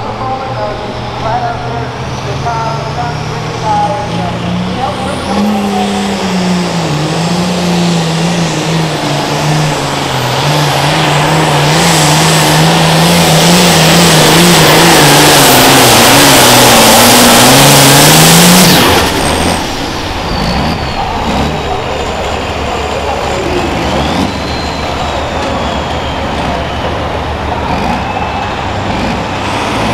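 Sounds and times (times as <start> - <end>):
diesel tractor engine under load: 0.0 - 29.9.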